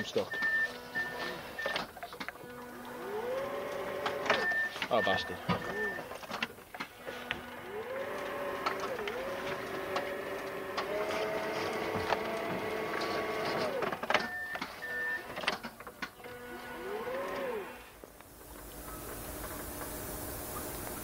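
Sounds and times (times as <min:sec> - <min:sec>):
forklift motor whining: 0:00.0 - 0:21.0.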